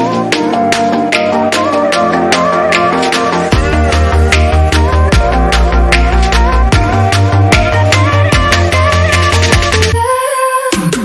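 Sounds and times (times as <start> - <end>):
electronic music with synth melody: 0.0 - 11.0.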